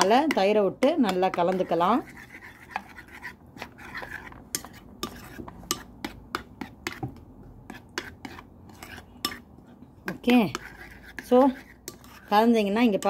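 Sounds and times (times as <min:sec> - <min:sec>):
spoon scraping and clinking bowl: 0:00.0 - 0:09.5, 0:10.2 - 0:13.0.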